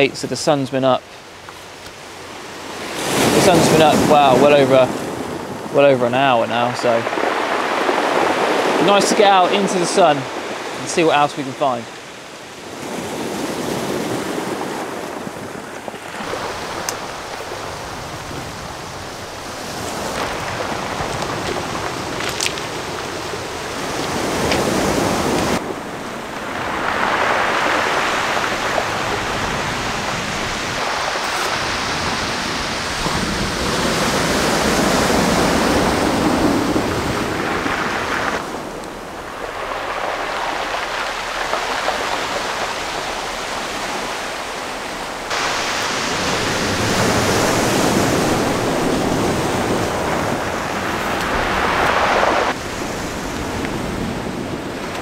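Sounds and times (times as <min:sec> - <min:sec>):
surf washing on pebble beach: 0:00.0 - 0:55.0.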